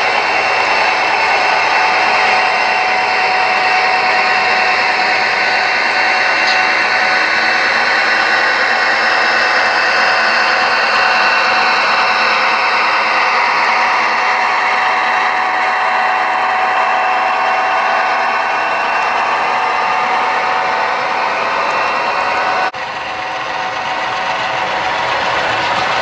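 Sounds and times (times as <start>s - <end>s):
model train wheels on rail: 0.0s - 26.0s.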